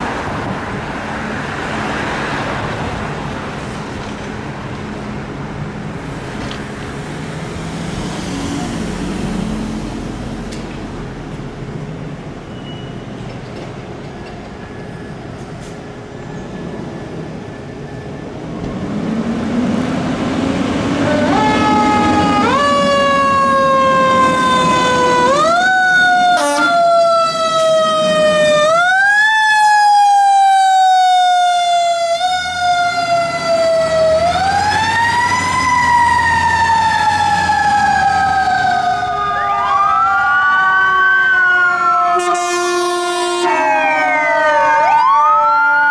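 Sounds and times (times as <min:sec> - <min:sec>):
fire engine siren: 0:00.0 - 0:13.2, 0:14.5 - 0:45.9
truck engine and road noise: 0:00.0 - 0:45.9.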